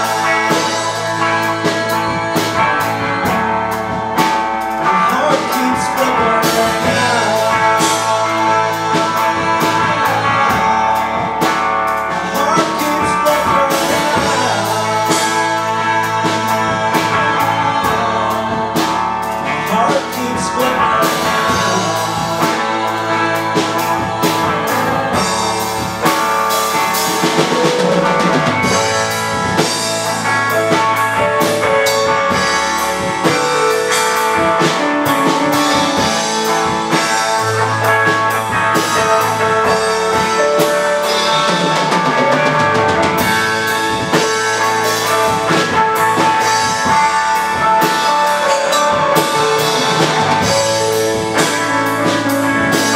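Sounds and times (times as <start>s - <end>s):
drum beats: 0.0s - 52.9s
electric guitar: 0.0s - 52.9s
electric keyboard: 0.0s - 52.9s.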